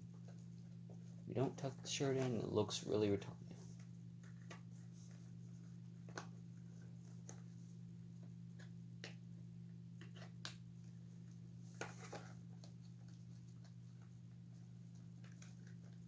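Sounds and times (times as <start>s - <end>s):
clicks and rustles of handling: 0.0s - 9.2s, 9.9s - 16.0s.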